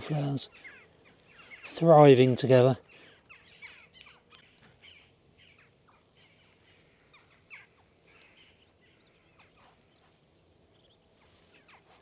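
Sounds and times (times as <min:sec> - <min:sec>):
jackdaw flock calling: 0:00.0 - 0:01.8, 0:02.8 - 0:12.0.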